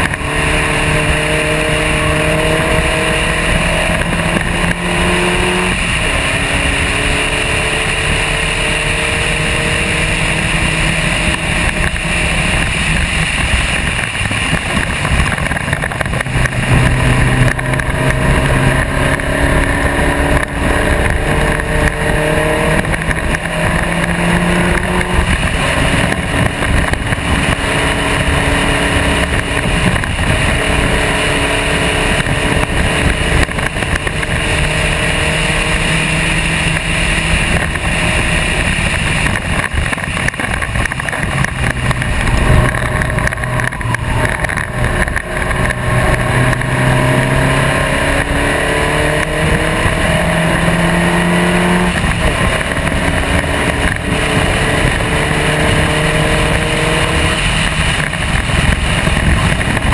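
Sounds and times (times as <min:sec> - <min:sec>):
race car engine accelerating: 0:00.0 - 0:59.9
wind rush: 0:00.0 - 0:59.9.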